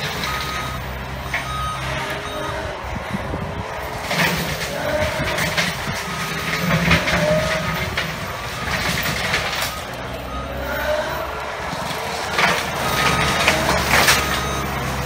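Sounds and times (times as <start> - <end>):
diesel loader engine running: 0.0 - 15.0.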